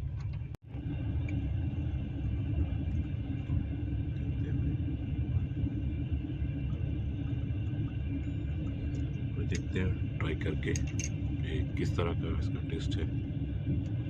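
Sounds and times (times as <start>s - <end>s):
moving train rumble: 0.0s - 14.0s.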